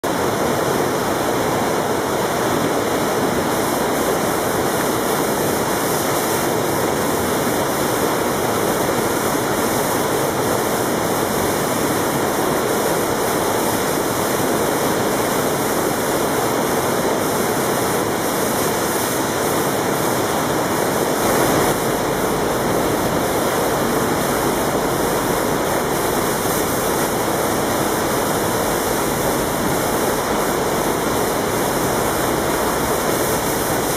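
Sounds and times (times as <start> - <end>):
whitewater rushing: 0.0 - 33.9.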